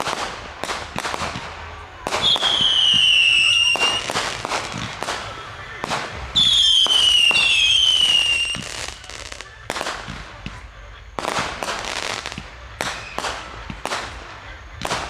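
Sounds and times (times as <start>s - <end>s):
fireworks exploding: 0.0s - 15.0s.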